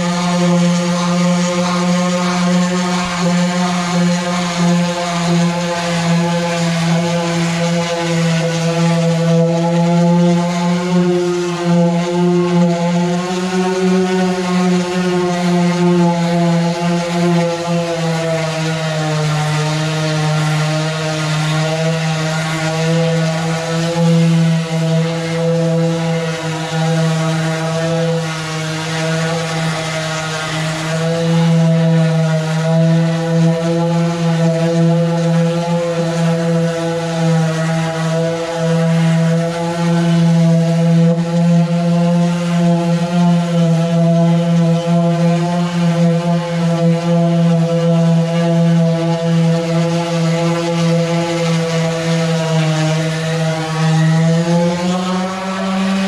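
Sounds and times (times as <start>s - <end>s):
power sander on metal: 0.0s - 56.0s.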